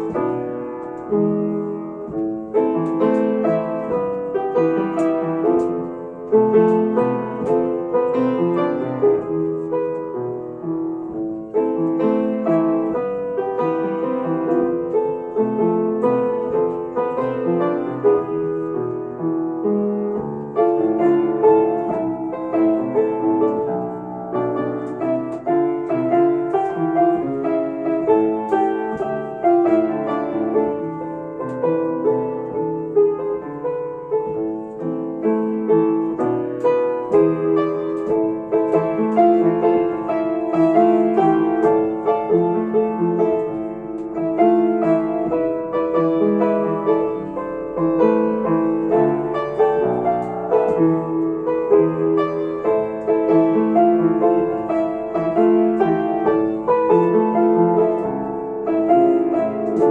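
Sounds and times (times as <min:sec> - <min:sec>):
slow gentle solo piano: 0:00.0 - 0:59.9.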